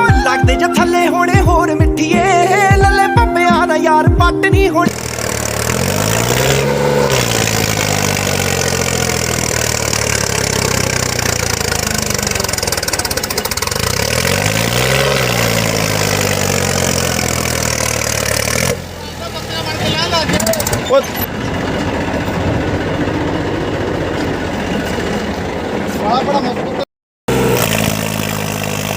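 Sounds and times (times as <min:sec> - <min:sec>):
tractor engine under load: 0:00.0 - 0:28.9.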